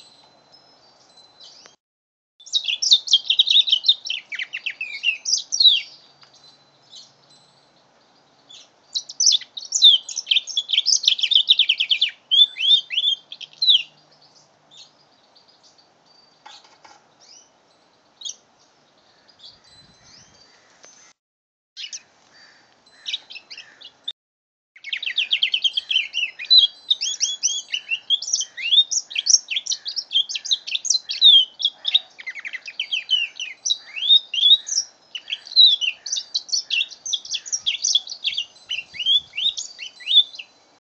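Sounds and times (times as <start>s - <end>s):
bird singing twittering song: 0.0s - 1.8s, 2.4s - 21.2s, 21.8s - 24.1s, 24.8s - 40.8s.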